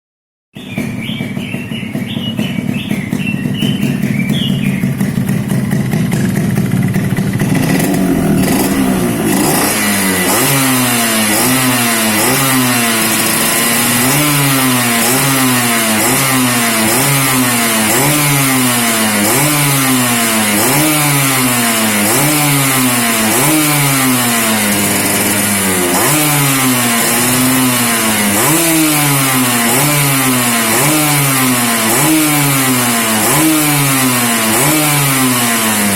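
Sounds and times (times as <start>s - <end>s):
motorcycle engine revving: 0.6s - 35.9s.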